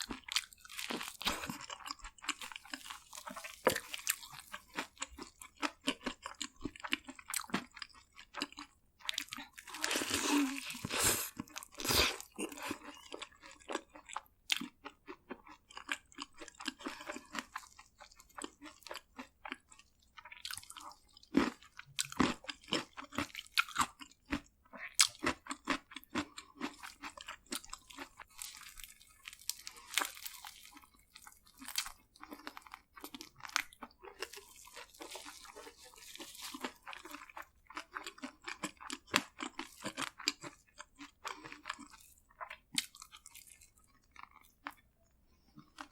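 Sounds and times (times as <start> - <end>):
crunching and chewing fried food: 0.0 - 45.9.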